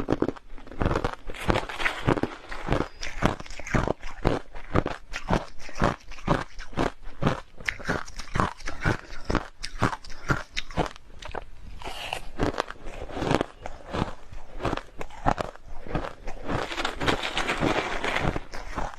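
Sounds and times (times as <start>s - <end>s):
crushed ice being chewed: 0.0s - 18.9s.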